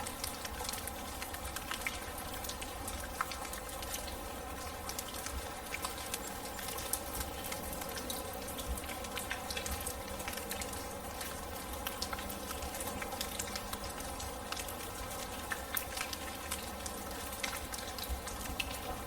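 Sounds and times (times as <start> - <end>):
rain falling: 0.0 - 19.0
raindrops pattering and dripping: 0.0 - 19.0.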